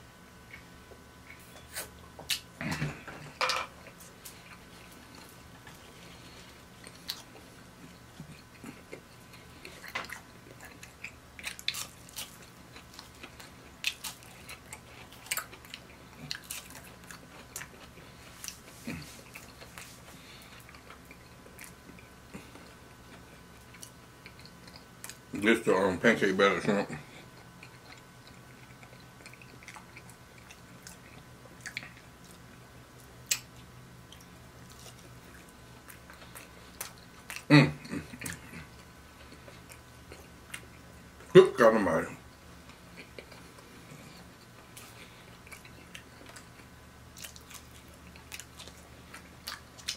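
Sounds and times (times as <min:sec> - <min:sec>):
person chewing: 0:03.8 - 0:25.3, 0:27.0 - 0:41.3, 0:42.3 - 0:49.9.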